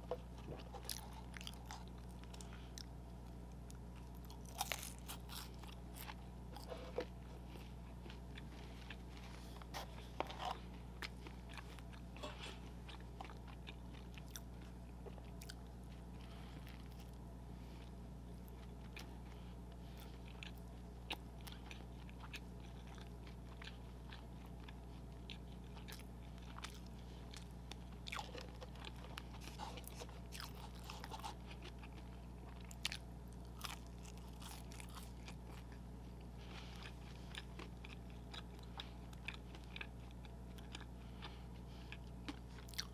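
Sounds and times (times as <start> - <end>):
person biting and chewing food: 0.0 - 17.2, 20.0 - 42.9
low electrical hum: 0.0 - 42.9.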